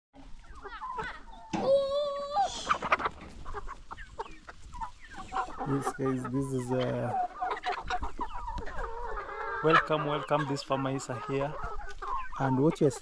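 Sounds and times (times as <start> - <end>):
chickens clucking: 0.2 - 13.0.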